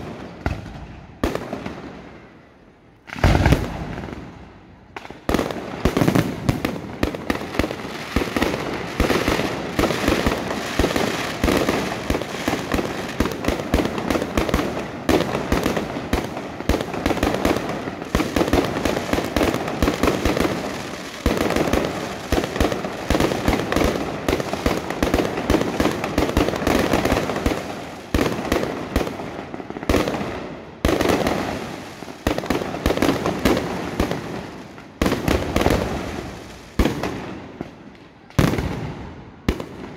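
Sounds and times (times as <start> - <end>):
fireworks bangs and crackles: 0.0 - 39.9
heavy firework bursts: 3.0 - 37.8.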